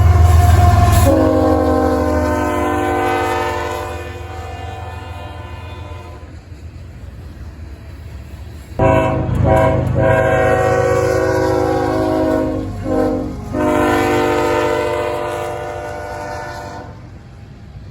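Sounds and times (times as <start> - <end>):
locomotive air horn: 0.0 - 6.4, 8.8 - 17.1
train rumble: 0.0 - 17.9.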